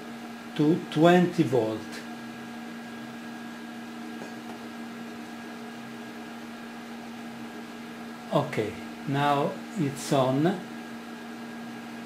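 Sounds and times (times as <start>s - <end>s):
electrical hum with faint hiss: 0.0s - 12.0s.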